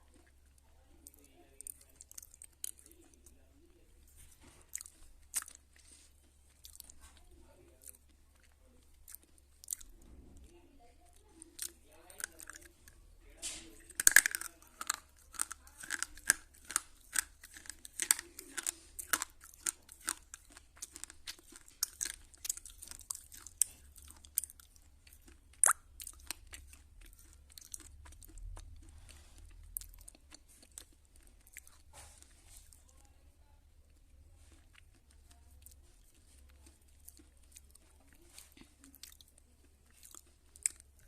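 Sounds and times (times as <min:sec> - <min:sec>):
dry crunches of chewing: 0:00.0 - 0:10.4, 0:11.2 - 0:32.9, 0:33.9 - 0:41.0.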